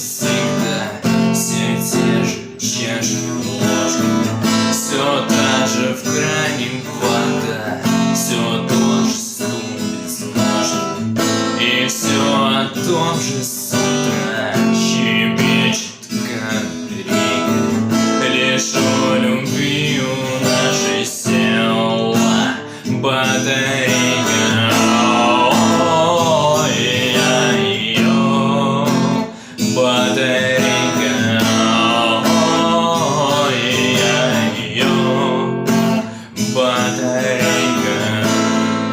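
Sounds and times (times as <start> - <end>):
person singing: 0.0 - 38.9
strummed acoustic guitar: 0.0 - 38.9.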